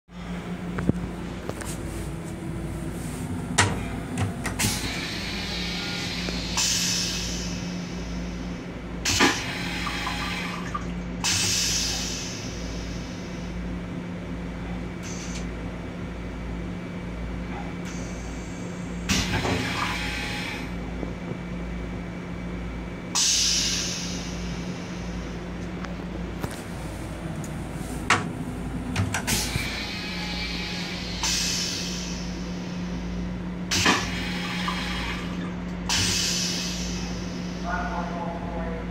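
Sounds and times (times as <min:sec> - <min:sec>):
railcar low hum: 0:00.1 - 0:38.9.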